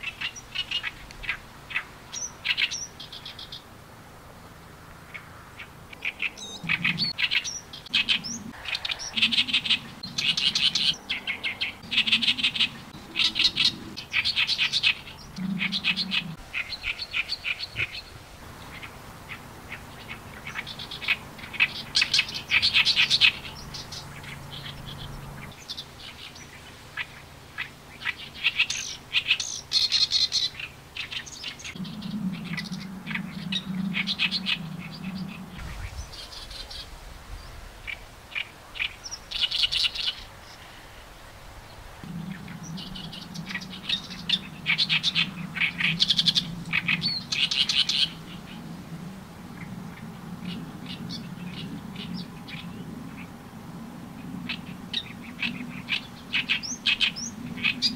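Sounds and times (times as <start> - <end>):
warbler singing harsh song: 0.0 - 3.7, 5.0 - 40.8, 42.0 - 48.7, 54.4 - 57.9.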